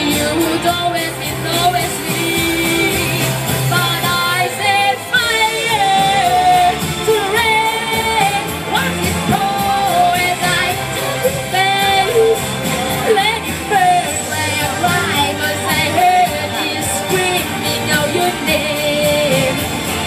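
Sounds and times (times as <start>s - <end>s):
backing music with steady beat: 0.0s - 20.0s
person singing into a microphone: 0.0s - 20.0s.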